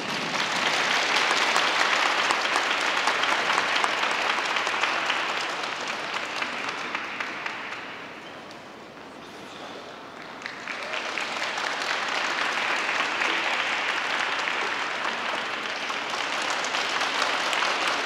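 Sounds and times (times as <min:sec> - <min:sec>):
audience applause: 0:00.0 - 0:08.2, 0:10.2 - 0:18.0.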